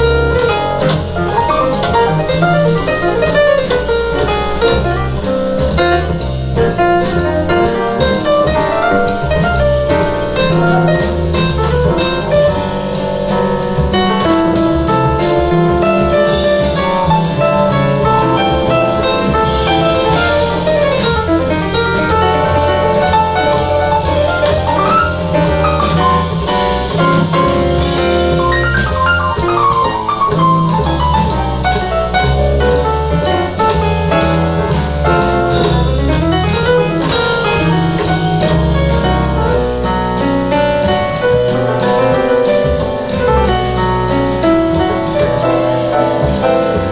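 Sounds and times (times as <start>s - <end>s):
jazz with piano and drums: 0.0s - 46.9s.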